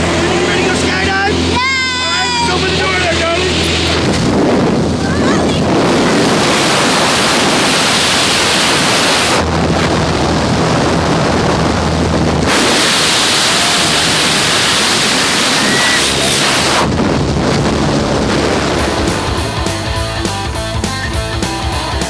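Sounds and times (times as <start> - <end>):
wind buffeting microphone: 0.0 - 20.8.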